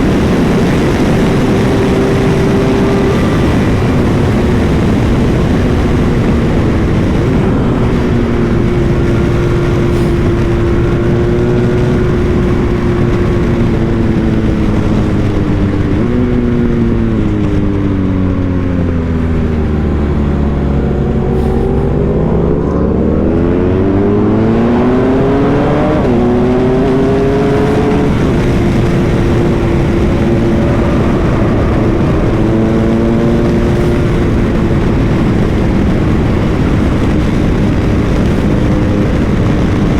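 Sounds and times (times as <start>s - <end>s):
motorcycle engine: 0.0s - 39.9s
wind rushing: 0.0s - 39.9s.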